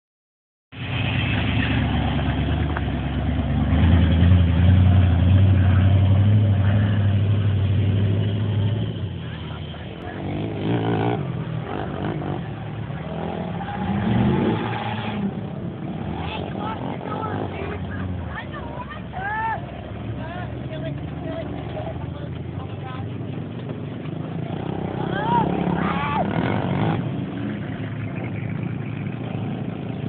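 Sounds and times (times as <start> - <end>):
truck engine under heavy throttle: 0.7 - 30.0.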